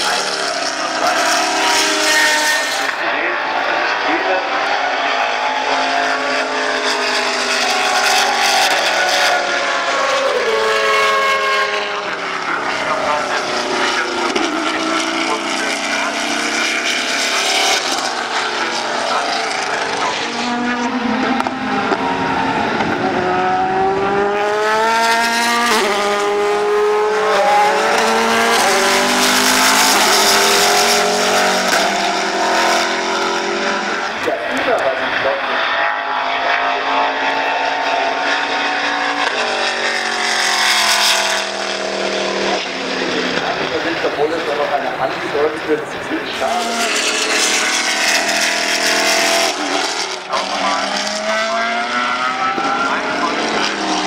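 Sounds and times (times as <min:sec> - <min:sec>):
racing car engine passing by: 0:00.0 - 0:54.0.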